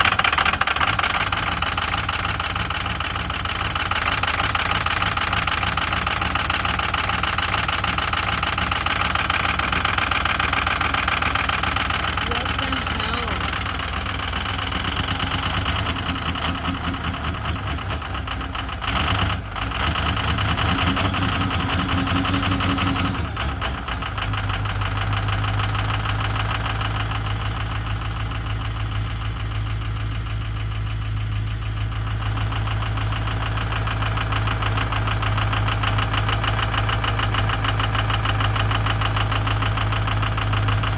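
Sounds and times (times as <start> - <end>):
diesel engine idling with knock: 0.0 - 40.9.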